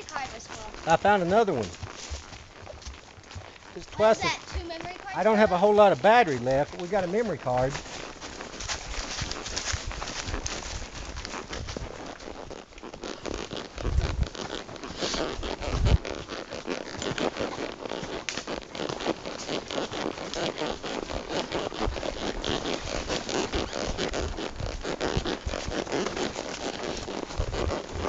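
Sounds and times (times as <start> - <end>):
close scraping and rustling: 0.0 - 28.0.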